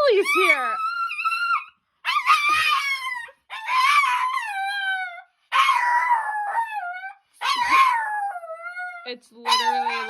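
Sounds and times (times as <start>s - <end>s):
dog howling: 0.0s - 10.0s.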